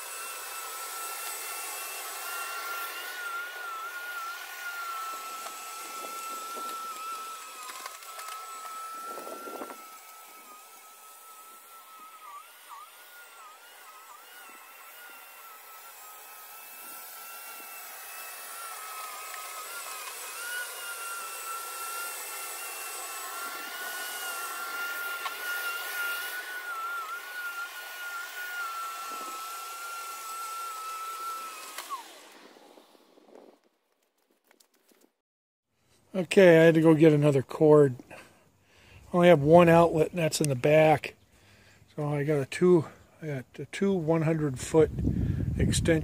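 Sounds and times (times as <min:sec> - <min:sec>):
electric scarifier motor whine: 0:00.0 - 0:33.6, 0:38.8 - 0:46.0.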